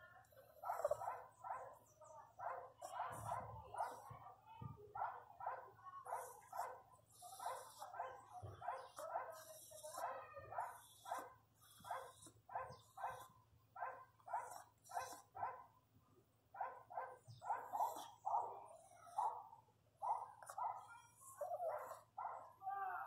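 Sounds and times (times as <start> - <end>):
dog barking: 0.4 - 4.3, 4.9 - 15.8, 16.5 - 22.6.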